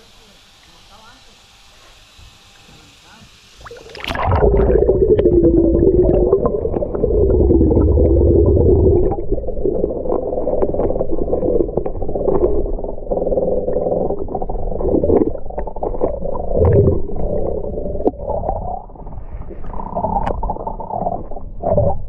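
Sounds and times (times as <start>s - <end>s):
wavering hums: 3.5s - 22.0s
underwater rumble of moving water: 3.6s - 22.0s.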